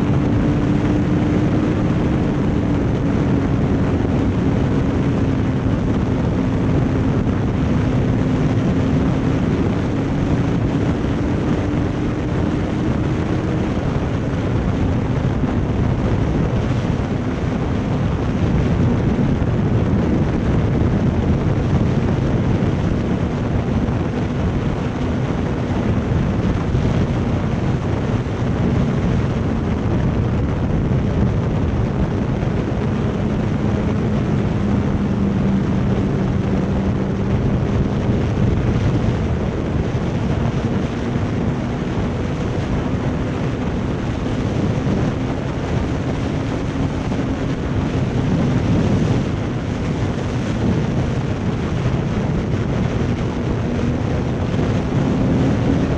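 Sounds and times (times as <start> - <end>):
motorcycle engine hum: 0.0 - 55.9
wind rush on microphone: 0.0 - 55.9.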